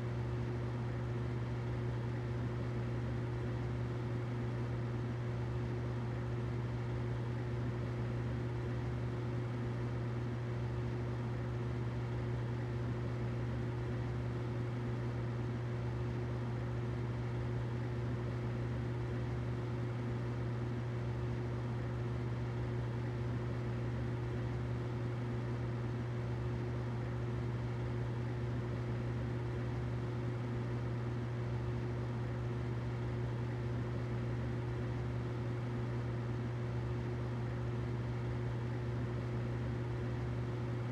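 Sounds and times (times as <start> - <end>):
humidifier humming: 0.0 - 40.9.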